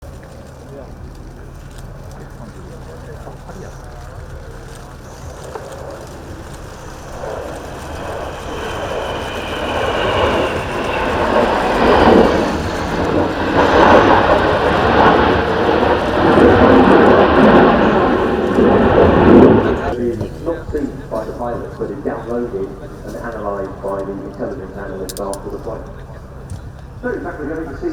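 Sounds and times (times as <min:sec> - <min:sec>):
high jet whine: 0:00.0 - 0:27.9
jet aircraft rumble: 0:00.0 - 0:27.9.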